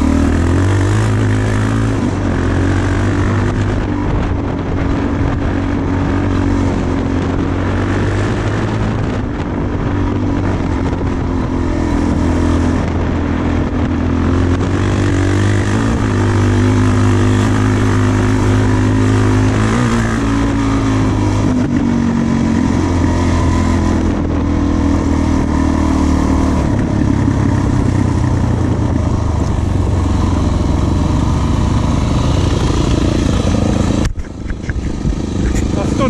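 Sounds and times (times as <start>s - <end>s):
motorcycle engine running: 0.0s - 36.0s
steady rushing noise: 0.0s - 36.0s.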